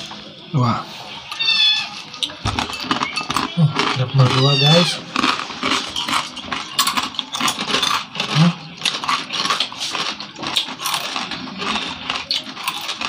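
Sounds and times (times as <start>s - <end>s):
crunchy snack being chewed: 1.3s - 13.0s.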